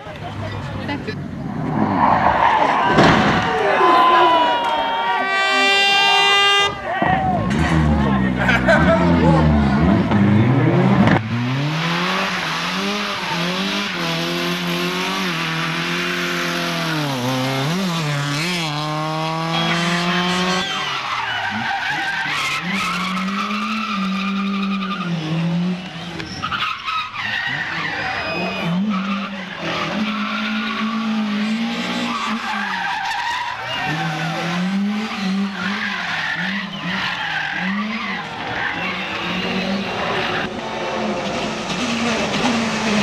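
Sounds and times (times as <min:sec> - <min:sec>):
racing car engine revving: 0:00.2 - 0:43.0.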